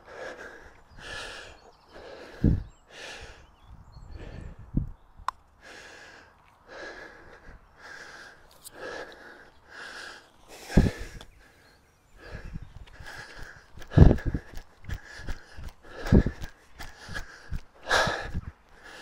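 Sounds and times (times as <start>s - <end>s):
man panting heavily: 0.0s - 4.8s, 5.6s - 19.0s.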